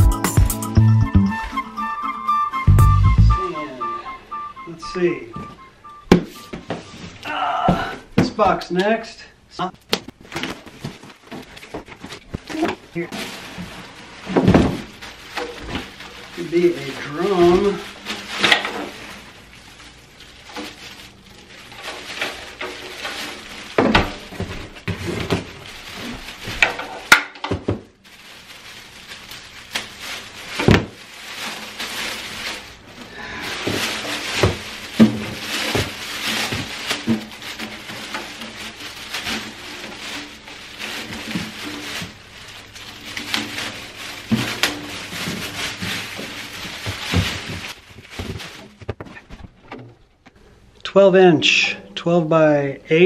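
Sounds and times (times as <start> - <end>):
bubble wrap and plastic crinkling: 1.5 - 7.5, 9.6 - 50.9.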